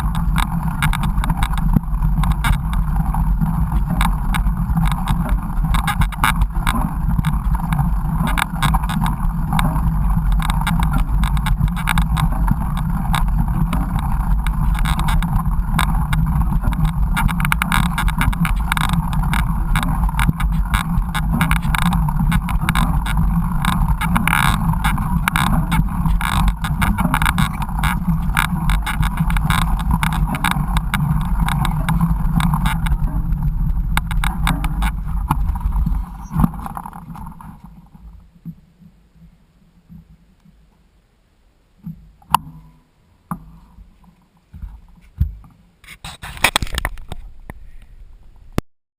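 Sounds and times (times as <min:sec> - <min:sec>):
mountain bike rattling on rough trail: 0:00.0 - 0:38.3, 0:46.0 - 0:48.6
wind rumble on microphone: 0:00.0 - 0:40.3, 0:43.3 - 0:48.6.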